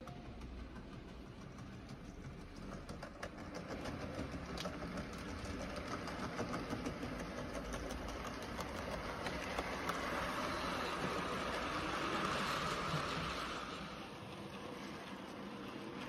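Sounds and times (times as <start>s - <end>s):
wheels clicking on rails: 0.0s - 16.0s
model train motor hum: 0.1s - 16.0s.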